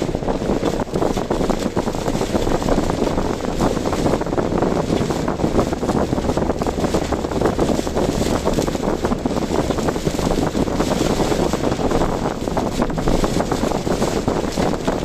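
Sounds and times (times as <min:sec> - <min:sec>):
car driving noise: 0:00.0 - 0:15.0
wind buffeting microphone: 0:00.0 - 0:15.0.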